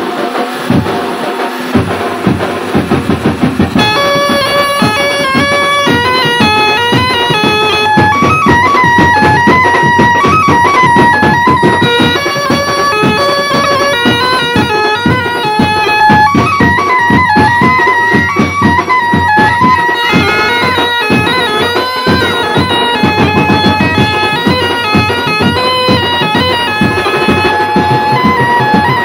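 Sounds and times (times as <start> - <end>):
fast steady percussion: 0.0 - 29.0
melody in held notes: 3.7 - 29.0.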